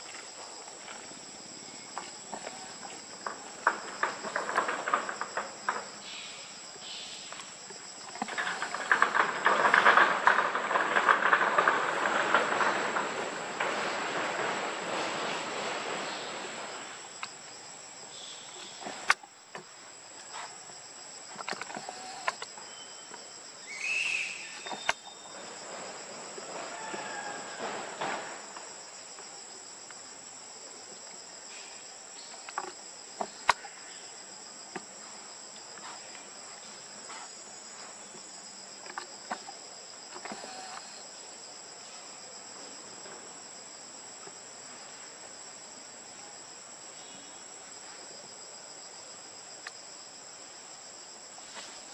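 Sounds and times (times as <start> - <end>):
insect chorus drone: 0.0 - 51.9.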